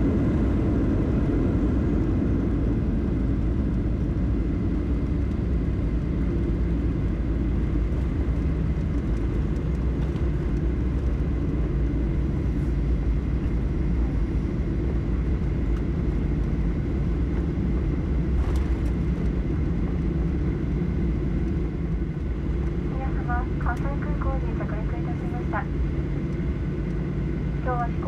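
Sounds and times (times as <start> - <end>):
airliner cabin engine rumble: 0.0 - 28.0.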